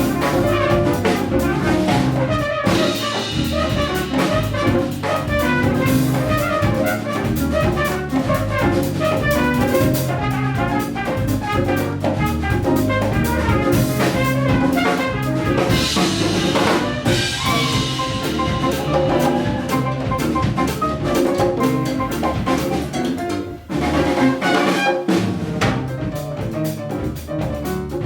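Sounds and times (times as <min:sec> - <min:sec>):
latin jazz band playing: 0:00.0 - 0:28.0
trumpet: 0:00.0 - 0:28.0.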